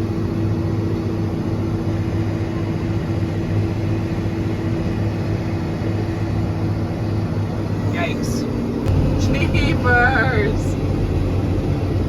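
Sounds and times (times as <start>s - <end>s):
tractor engine droning: 1.4s - 12.0s.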